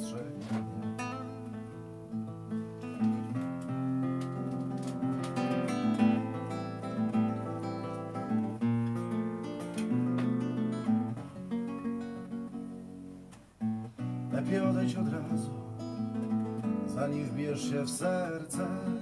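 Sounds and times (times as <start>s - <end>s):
acoustic guitar picking: 0.0s - 19.0s.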